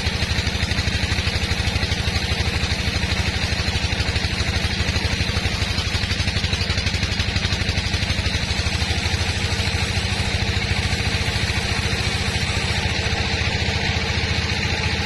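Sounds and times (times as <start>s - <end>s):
sawmill engine chugging: 0.0s - 15.0s.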